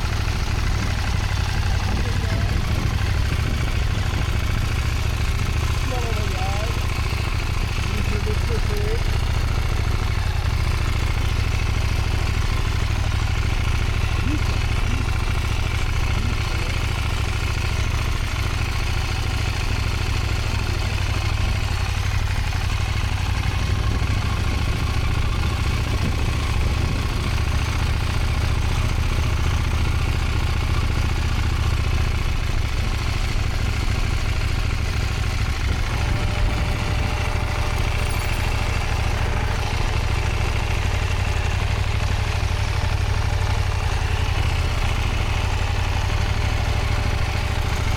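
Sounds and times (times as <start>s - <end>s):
motorcycle engine low rumble: 0.0s - 47.9s.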